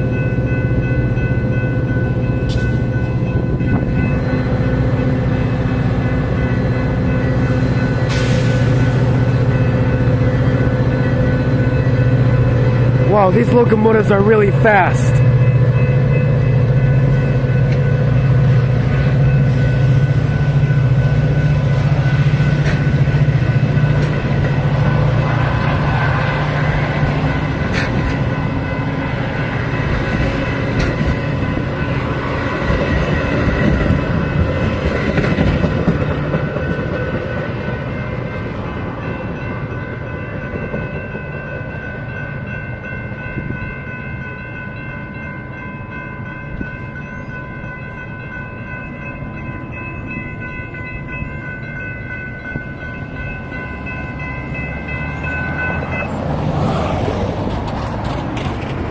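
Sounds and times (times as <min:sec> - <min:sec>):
train coaches rolling by: 0:00.0 - 0:58.9.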